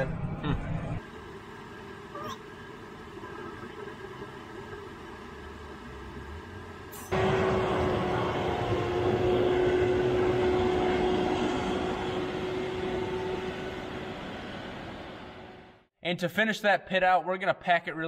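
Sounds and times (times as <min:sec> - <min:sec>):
constant whine: 0:00.0 - 0:15.9
engine hum inside truck cab: 0:00.0 - 0:15.9.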